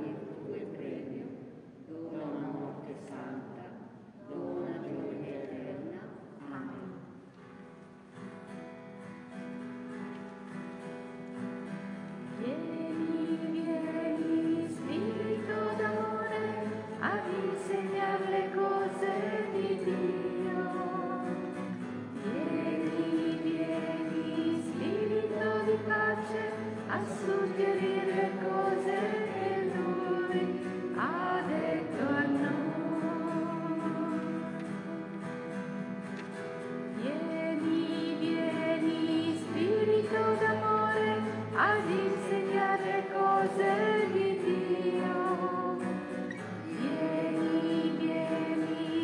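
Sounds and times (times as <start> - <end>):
choir singing sacred music: 0.0 - 7.1, 12.3 - 49.0.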